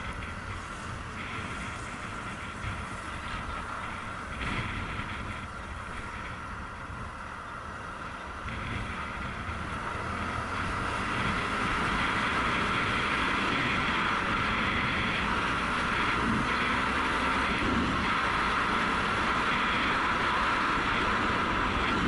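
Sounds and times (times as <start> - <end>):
motorcycle engine running: 0.0 - 22.0
wind rush: 0.0 - 22.0.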